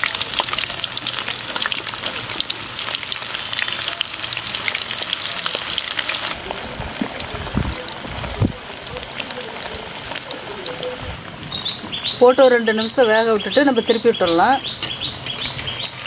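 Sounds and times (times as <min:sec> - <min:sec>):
vegetables deep-frying in oil: 0:00.0 - 0:16.0.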